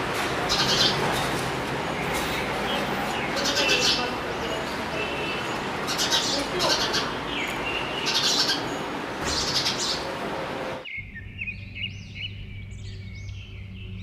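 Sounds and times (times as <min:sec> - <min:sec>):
small birds chirping: 0:01.9 - 0:10.2, 0:10.8 - 0:14.0.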